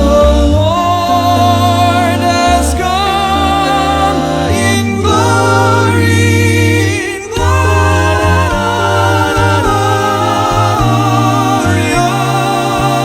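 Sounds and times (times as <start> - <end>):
voices singing carol in harmony: 0.0 - 13.0.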